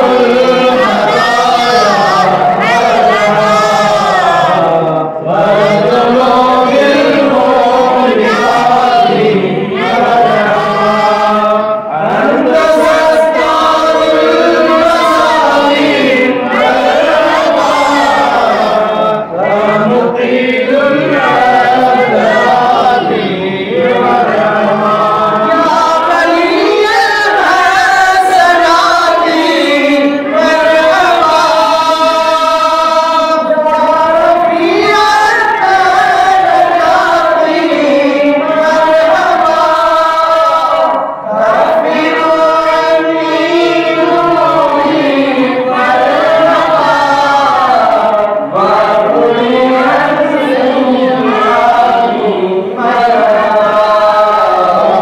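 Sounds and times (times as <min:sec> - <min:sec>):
group of men chanting: 0:00.0 - 0:55.0
man singing into a microphone: 0:00.0 - 0:55.0.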